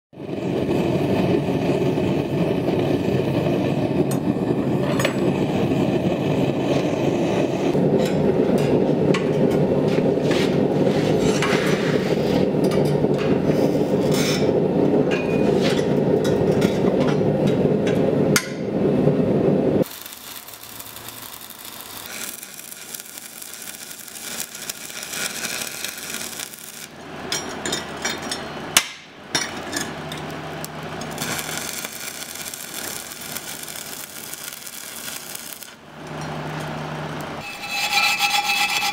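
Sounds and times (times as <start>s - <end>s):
gas forge burner roaring: 0.2s - 38.9s.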